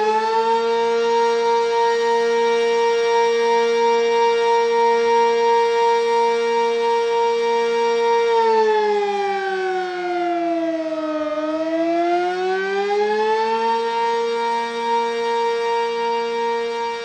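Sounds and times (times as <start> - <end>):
dual-tone warning siren: 0.0 - 17.0.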